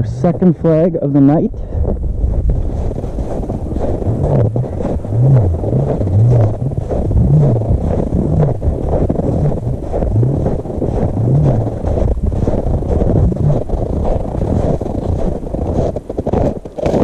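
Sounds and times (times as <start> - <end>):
wind buffeting microphone: 0.0 - 17.0
footsteps crunching in snow: 0.4 - 17.0
low tone rising and falling: 1.8 - 16.0.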